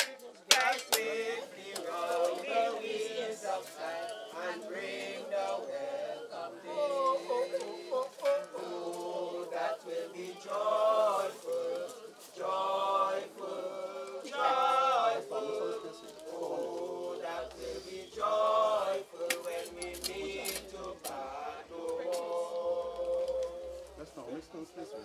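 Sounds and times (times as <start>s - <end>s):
people singing a hymn: 0.0s - 25.0s.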